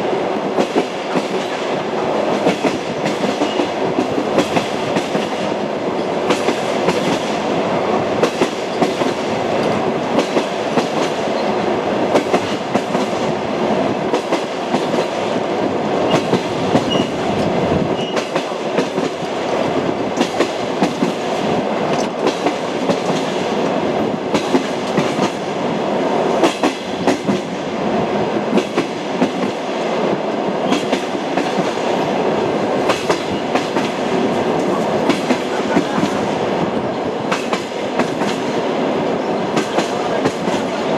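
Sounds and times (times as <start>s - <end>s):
train wheels rumbling: 0.0s - 40.9s
clickety-clack of rail joints: 0.4s - 40.9s.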